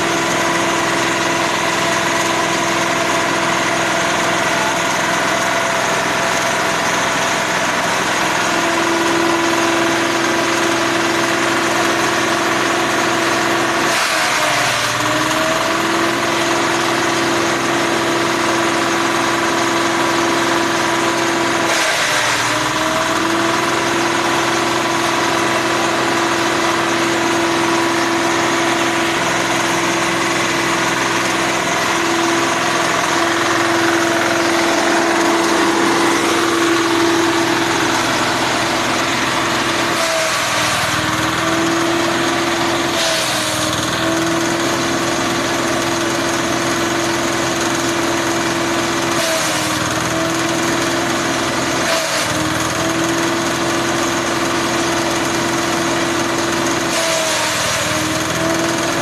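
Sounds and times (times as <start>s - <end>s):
diesel engine running: 0.0s - 59.0s
grass chopper whine: 0.0s - 59.0s.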